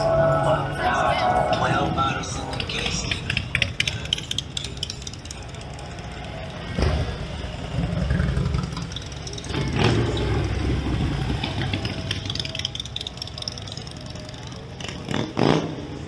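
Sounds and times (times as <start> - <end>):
vehicle engines rumbling in traffic: 0.0 - 16.0.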